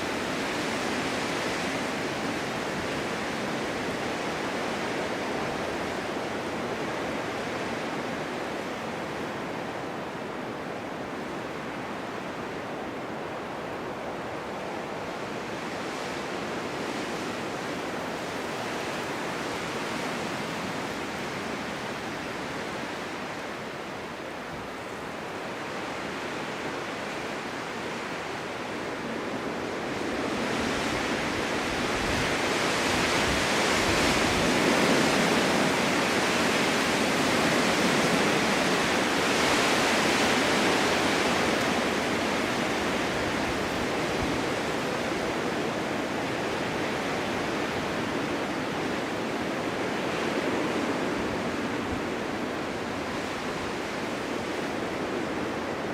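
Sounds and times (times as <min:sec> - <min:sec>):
strong wind blowing: 0:00.0 - 0:55.9.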